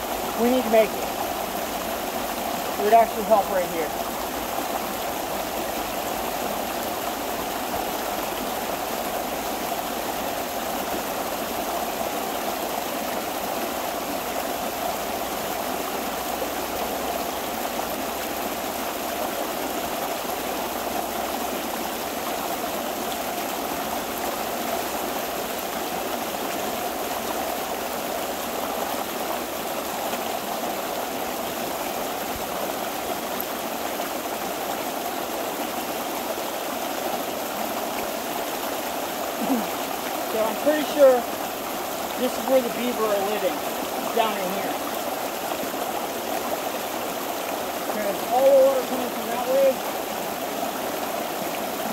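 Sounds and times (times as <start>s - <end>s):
water rushing through breach: 0.0s - 51.9s.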